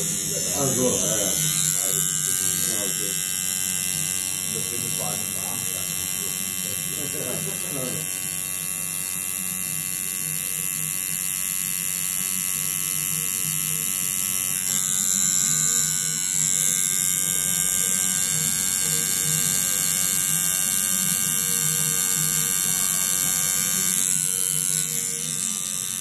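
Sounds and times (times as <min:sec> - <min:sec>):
tattoo machine buzzing: 0:00.0 - 0:26.0.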